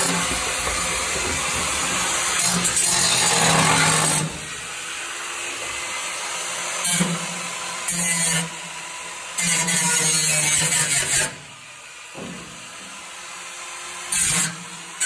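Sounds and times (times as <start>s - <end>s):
power saw cutting sheet metal: 0.0s - 15.0s.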